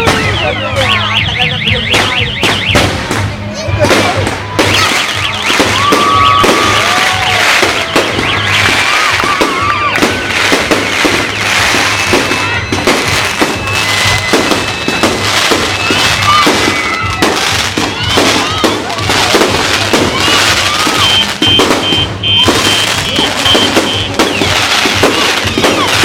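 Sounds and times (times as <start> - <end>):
firework whistles: 0.0 - 26.0
fireworks bangs and crackles: 0.0 - 26.0.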